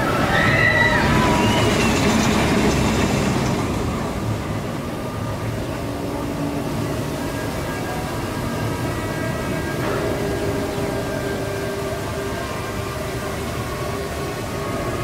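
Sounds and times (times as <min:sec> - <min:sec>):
roller coaster train rumbling: 0:00.0 - 0:15.0.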